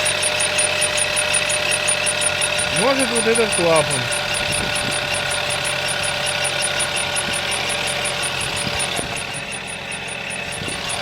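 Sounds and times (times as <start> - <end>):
car engine idling: 0.0 - 11.0
fast light ticking: 0.0 - 11.0
thin whistling squeak: 0.0 - 11.0.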